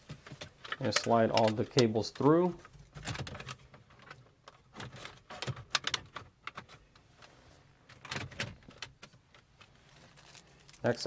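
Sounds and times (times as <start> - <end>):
cables and plastic trim clicking and rustling: 0.0 - 11.0.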